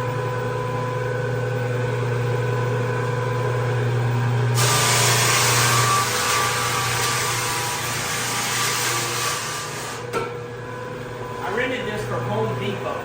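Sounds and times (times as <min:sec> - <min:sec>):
drum sander motor hum: 0:00.0 - 0:13.0.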